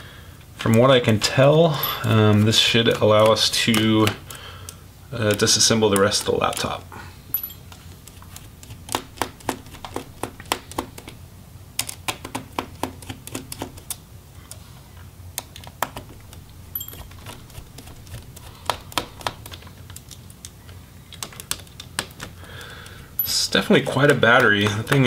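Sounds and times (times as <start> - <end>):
low steady hum: 0.0 - 11.9, 13.8 - 25.0.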